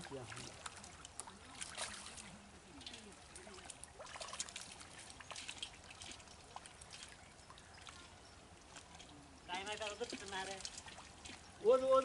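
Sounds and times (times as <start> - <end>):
hands splashing in muddy water: 0.0 - 11.5.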